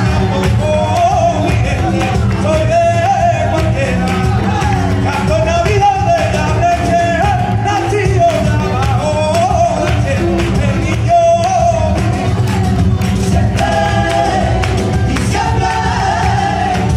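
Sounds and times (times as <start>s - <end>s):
man singing: 0.0s - 16.9s
rhythmic hand clapping: 0.0s - 16.9s.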